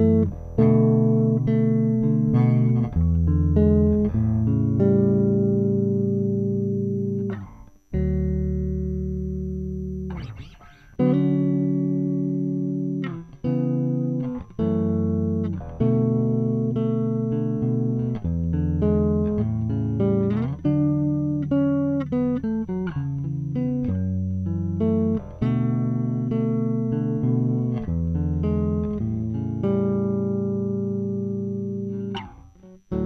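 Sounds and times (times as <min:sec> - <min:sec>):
electric bass plucked notes: 0:00.0 - 0:33.0.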